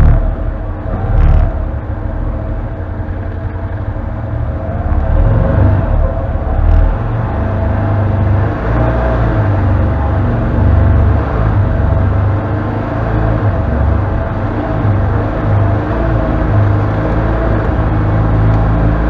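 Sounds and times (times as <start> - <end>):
engine rumbling at low speed: 0.0 - 19.0.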